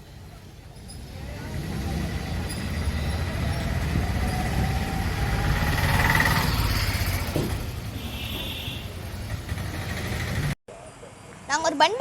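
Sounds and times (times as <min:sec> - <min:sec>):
street traffic rumbling: 0:00.0 - 0:12.0.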